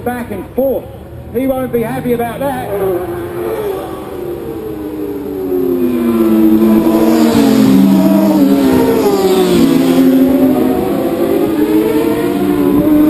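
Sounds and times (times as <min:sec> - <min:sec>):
racing motorcycle engines revving: 0:00.0 - 0:13.0.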